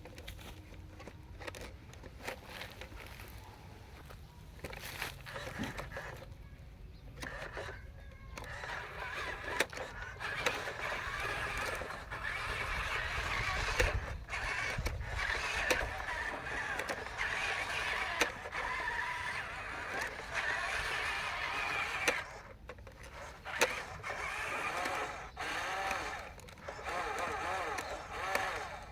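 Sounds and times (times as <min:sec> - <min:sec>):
small electric motors whirring: 0:00.0 - 0:28.9.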